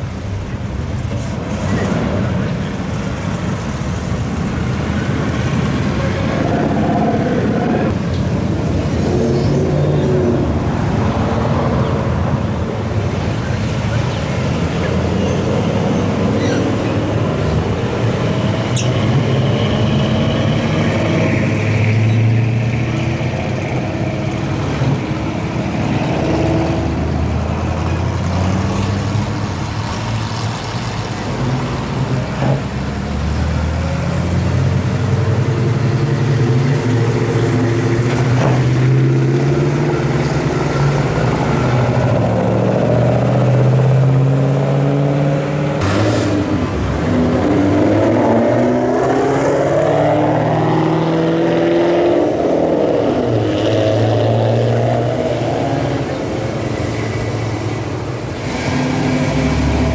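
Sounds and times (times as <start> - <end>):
vehicle engines driving past: 0.0 - 59.9.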